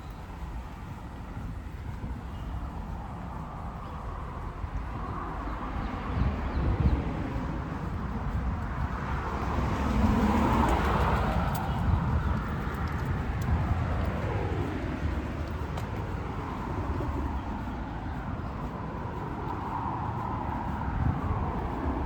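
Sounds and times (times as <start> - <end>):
cars passing on street: 0.0 - 22.0.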